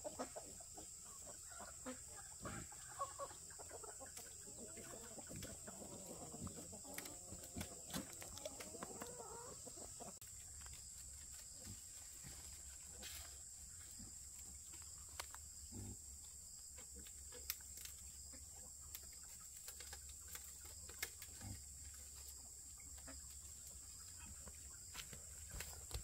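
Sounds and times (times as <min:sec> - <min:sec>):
faint low animal sounds: 0:00.0 - 0:26.0.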